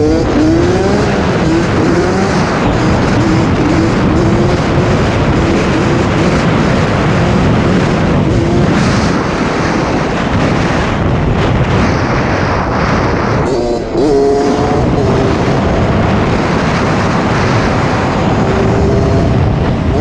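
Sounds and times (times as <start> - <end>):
dirt bike engine running: 0.0 - 20.0
wind rush on microphone: 0.0 - 20.0.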